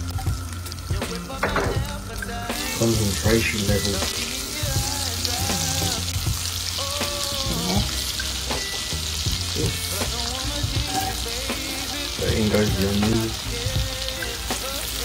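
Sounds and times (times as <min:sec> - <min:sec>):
garlic sizzling in butter: 0:00.0 - 0:15.0.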